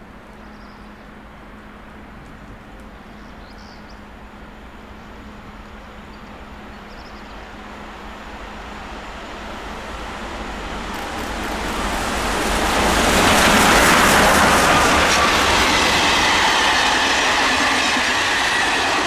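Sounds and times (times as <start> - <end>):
steam train passing: 0.0 - 19.0.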